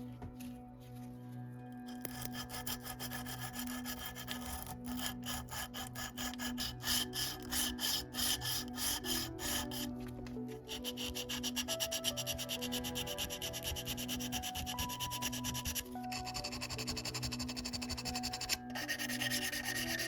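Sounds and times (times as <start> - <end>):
hand tool scraping strokes: 1.9 - 20.0.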